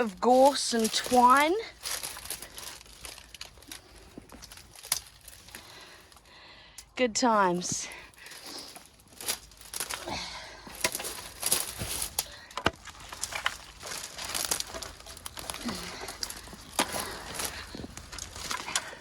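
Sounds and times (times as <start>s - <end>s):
twigs snapping and crackling: 0.0s - 6.9s, 7.9s - 19.0s
branches rustling: 0.0s - 19.0s.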